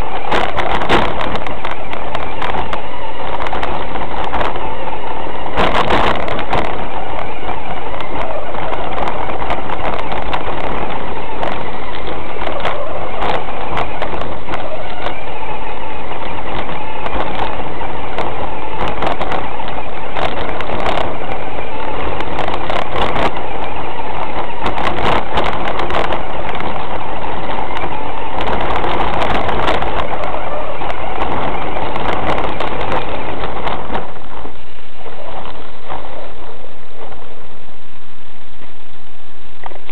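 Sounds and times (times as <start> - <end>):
rc truck drive and tyre noise: 0.0 - 39.9.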